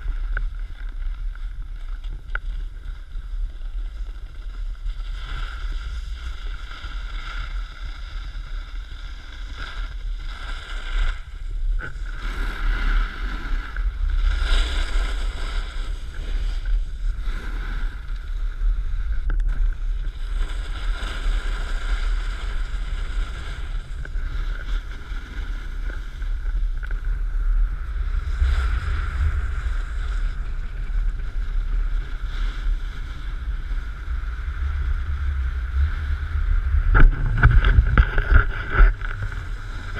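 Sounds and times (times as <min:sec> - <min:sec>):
snowboard scraping on snow: 0:00.0 - 0:39.9
wind rushing over microphone: 0:00.0 - 0:39.9.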